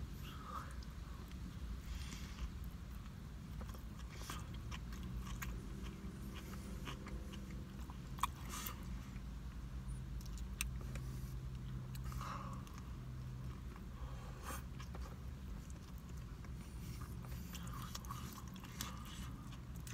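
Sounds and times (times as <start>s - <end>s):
car interior hum: 0.0s - 19.9s
man chewing wetly: 0.7s - 19.9s.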